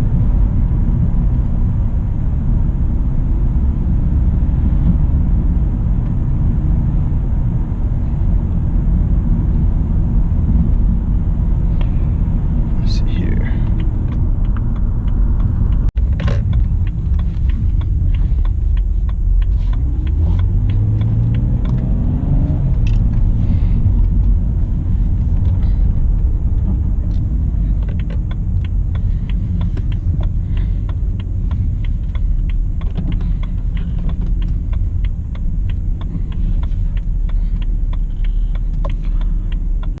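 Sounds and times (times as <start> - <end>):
vehicle engine rumble: 0.0 - 40.0.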